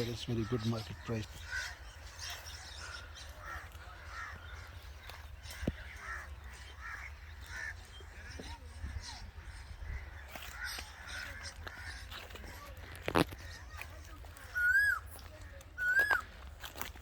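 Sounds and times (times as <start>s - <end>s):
crows cawing: 0.0s - 16.9s.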